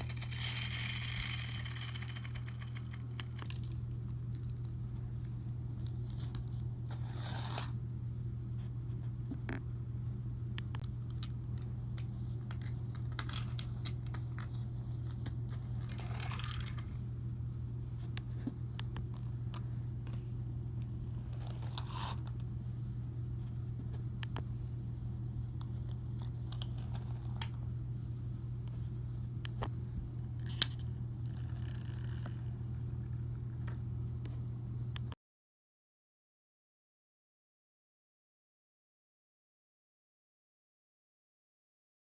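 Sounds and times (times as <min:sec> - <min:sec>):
steady low hum: 0:00.0 - 0:35.2.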